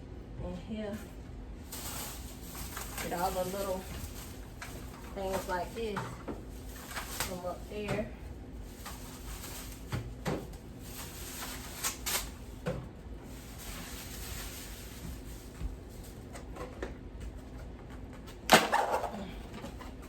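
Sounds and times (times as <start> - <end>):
packages knocking in refrigerator: 1.7 - 20.0.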